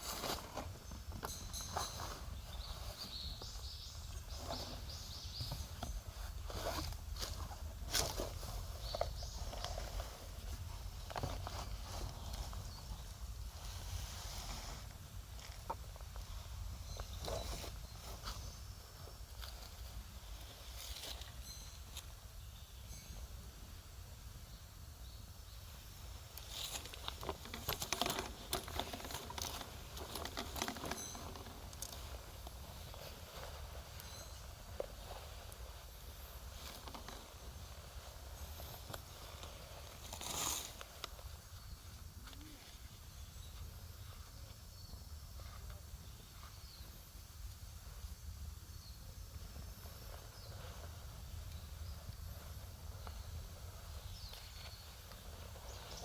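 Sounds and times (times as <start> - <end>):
small birds chirping: 0.2 - 23.6, 24.3 - 56.0.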